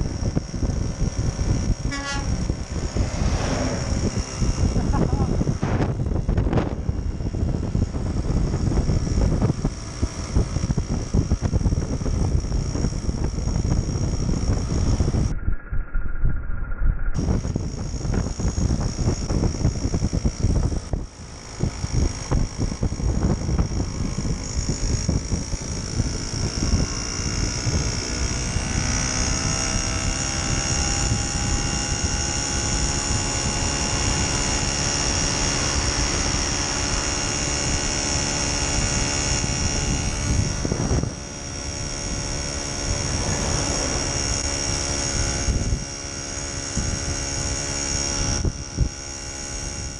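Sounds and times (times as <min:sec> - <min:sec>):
moped engine buzzing: 0:00.0 - 0:15.3, 0:17.2 - 0:49.9
wind buffeting microphone: 0:00.0 - 0:15.4, 0:17.1 - 0:49.9.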